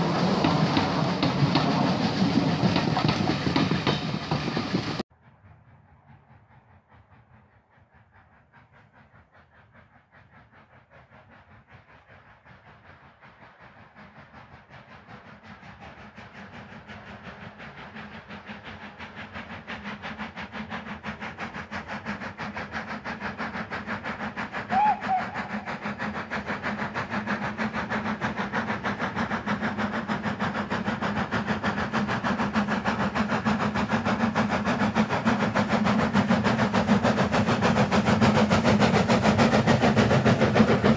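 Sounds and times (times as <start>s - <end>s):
steam locomotive exhaust beats: 0.0s - 40.9s.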